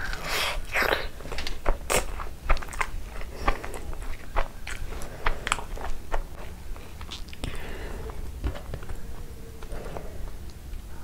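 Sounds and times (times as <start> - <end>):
chewing soft sweet: 0.0 - 11.0.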